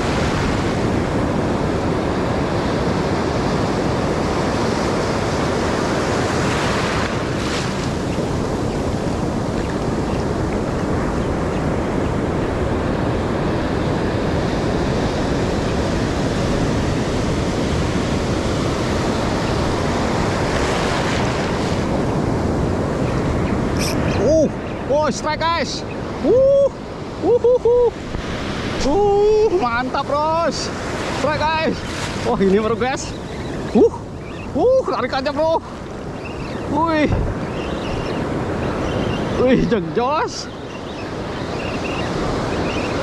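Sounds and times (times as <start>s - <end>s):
wind buffeting microphone: 0.0s - 35.0s, 35.6s - 43.0s
ocean surf breaking: 0.0s - 43.0s.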